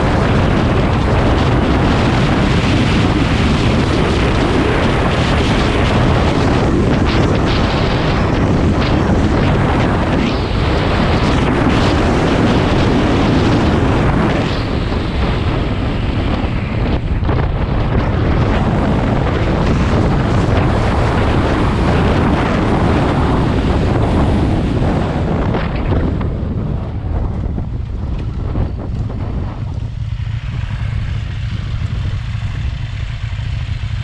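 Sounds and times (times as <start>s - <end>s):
motorcycle engine: 0.0s - 34.0s
road noise: 0.0s - 34.0s
wind buffeting microphone: 0.0s - 34.0s.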